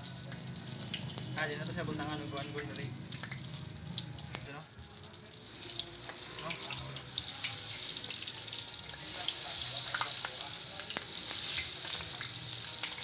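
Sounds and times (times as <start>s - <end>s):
eggplant sizzling in hot oil: 0.0s - 13.0s.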